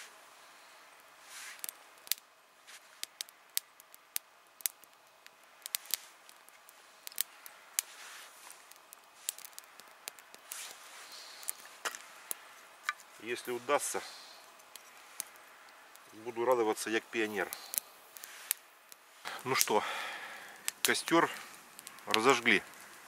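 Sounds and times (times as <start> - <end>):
fire hissing: 0.0 - 23.0
kindling fire crackling: 0.0 - 23.0.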